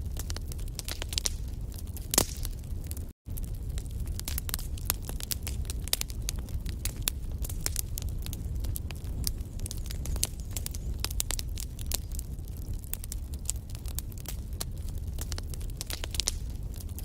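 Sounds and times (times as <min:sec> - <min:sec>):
logs crackling and popping: 0:00.0 - 0:17.0
low fire rumble: 0:00.0 - 0:17.0.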